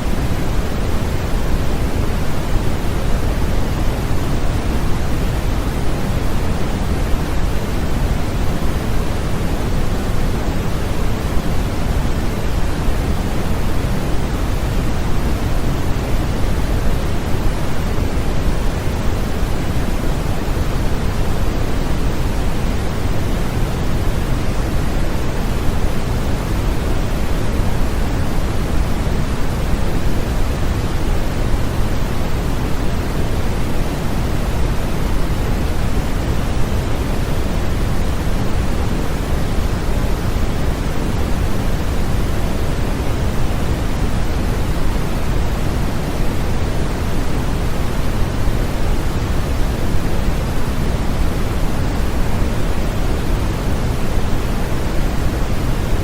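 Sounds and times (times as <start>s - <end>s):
steady white noise: 0.0s - 56.0s.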